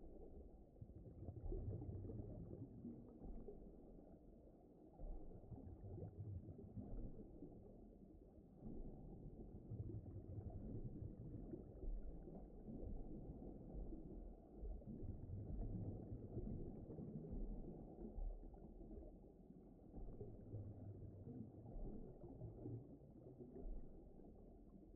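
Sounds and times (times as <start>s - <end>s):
muffled underwater rumble: 0.0s - 24.9s.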